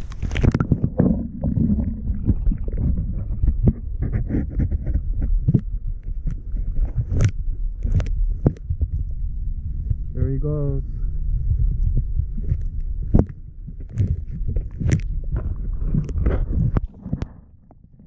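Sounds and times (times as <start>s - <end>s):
underwater rumbling and gurgling: 0.0s - 18.0s.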